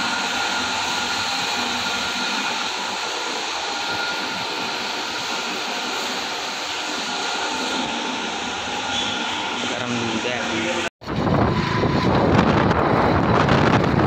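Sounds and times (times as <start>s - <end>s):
machinery whirring: 0.0s - 14.0s.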